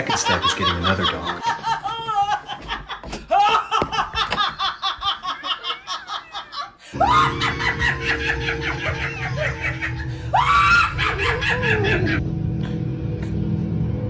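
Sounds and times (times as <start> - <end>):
people laughing: 0.0 - 12.2.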